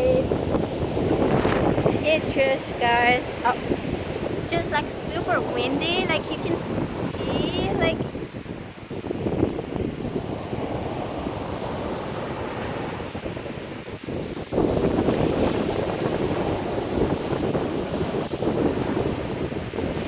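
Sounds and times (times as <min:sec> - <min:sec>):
heavy surf breaking: 0:00.0 - 0:20.0
wind buffeting microphone: 0:00.0 - 0:20.0.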